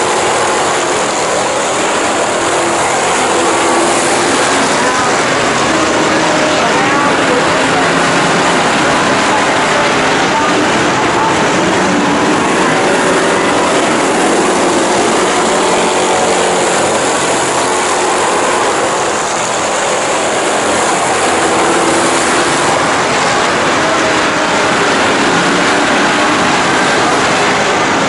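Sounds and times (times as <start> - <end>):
race car engines roaring: 0.0 - 28.0.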